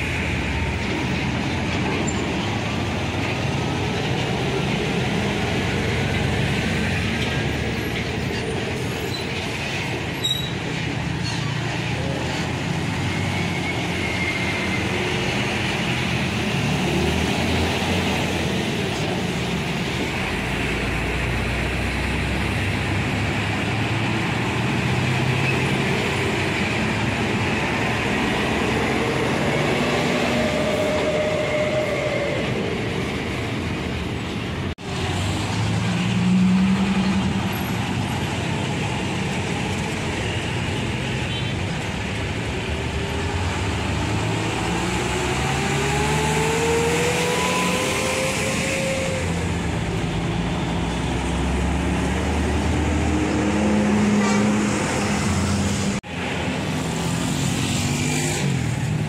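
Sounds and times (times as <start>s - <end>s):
heavy trucks passing: 0.0s - 59.0s.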